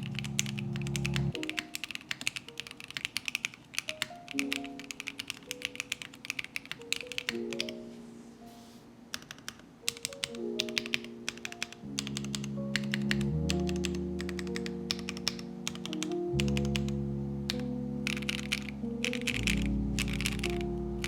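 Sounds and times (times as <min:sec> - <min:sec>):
background music: 0:00.0 - 0:02.8, 0:03.9 - 0:09.2, 0:09.8 - 0:21.0
mechanical keyboard typing: 0:00.0 - 0:07.8, 0:09.1 - 0:20.7.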